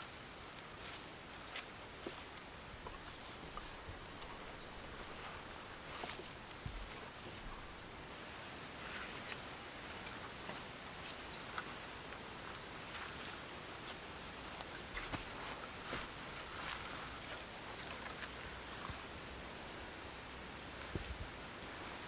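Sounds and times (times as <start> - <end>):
faint rustles and clicks: 0.0 - 19.7, 20.7 - 22.0
small birds chirping: 0.3 - 21.6.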